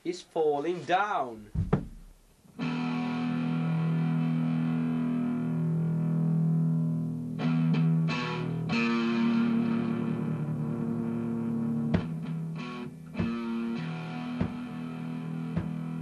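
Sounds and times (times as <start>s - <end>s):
distorted electric guitar music: 2.6s - 16.0s.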